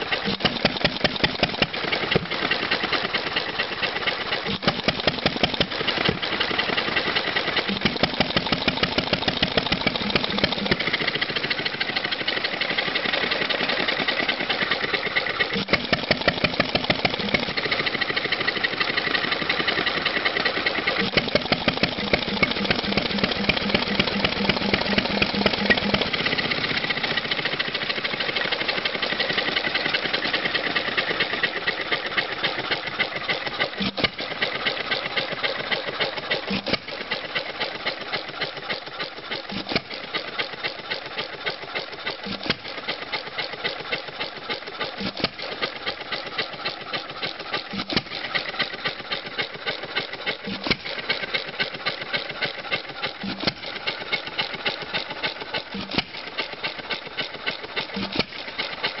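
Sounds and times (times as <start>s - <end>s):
old engine clattering: 0.0s - 59.0s.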